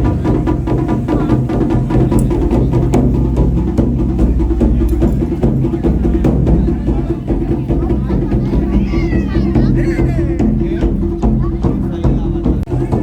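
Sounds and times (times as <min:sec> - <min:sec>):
deep drum booming: 0:00.0 - 0:13.0.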